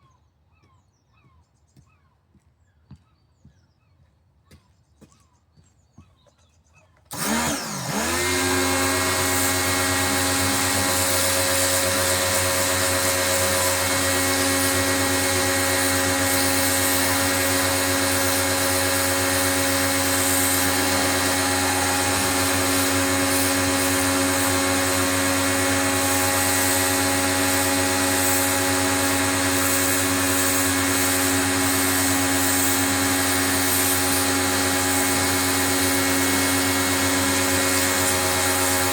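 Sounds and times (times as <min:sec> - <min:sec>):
pressure washer motor humming: 0:07.1 - 0:38.9.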